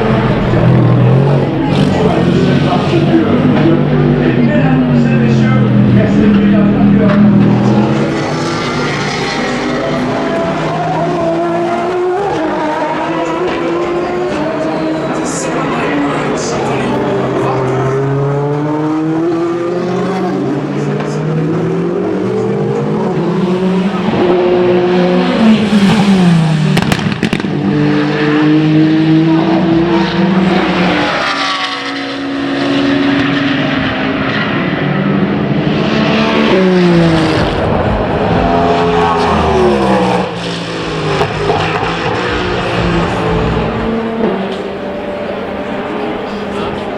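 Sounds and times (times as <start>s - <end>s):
race cars passing at speed: 0.0s - 46.9s.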